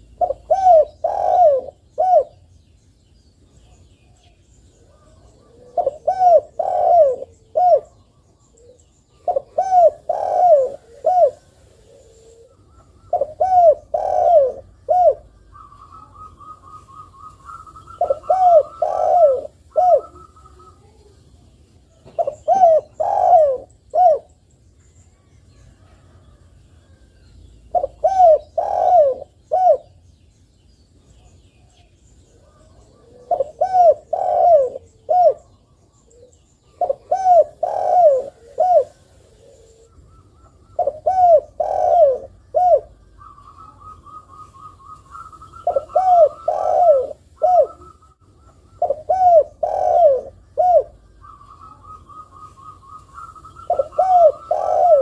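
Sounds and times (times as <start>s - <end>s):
dove cooing: 0.0s - 2.5s, 3.8s - 24.4s, 27.7s - 30.0s, 31.2s - 55.0s.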